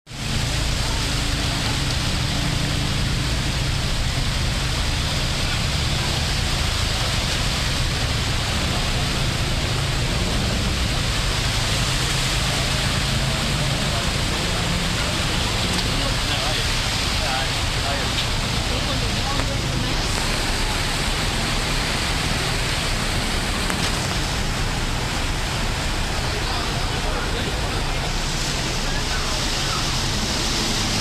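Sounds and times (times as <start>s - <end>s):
heavy rain falling: 0.1s - 31.0s
low engine hum: 0.1s - 31.0s.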